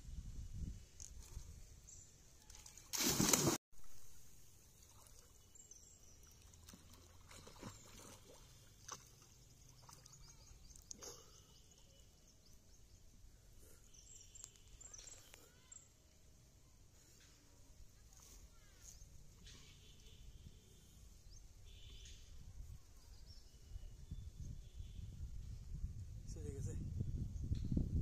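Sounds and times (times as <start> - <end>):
faint outdoor ambience over water: 0.9 - 26.4.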